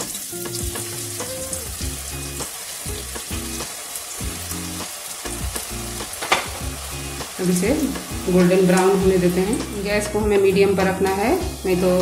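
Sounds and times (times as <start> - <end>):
food sizzling in hot oil: 0.0 - 12.0
soft background music: 0.0 - 12.0.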